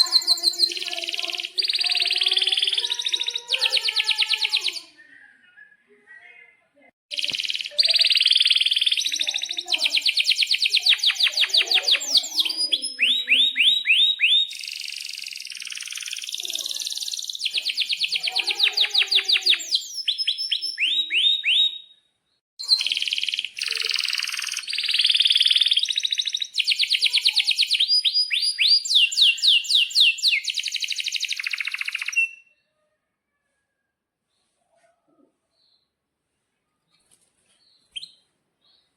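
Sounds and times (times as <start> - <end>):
canary singing trills: 0.0 - 32.8.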